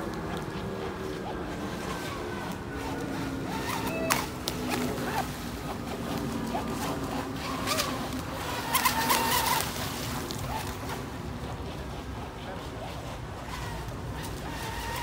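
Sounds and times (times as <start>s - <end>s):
speedboat motor and spray hiss: 0.0s - 15.0s.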